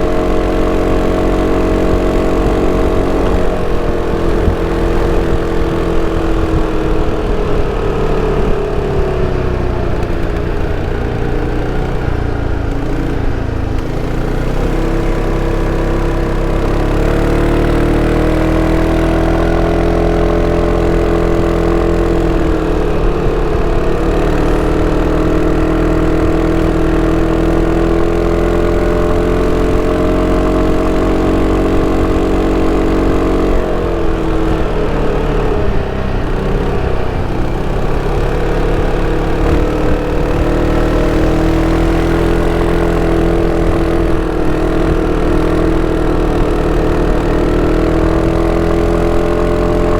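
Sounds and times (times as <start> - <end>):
scooter engine running: 0.0 - 49.9.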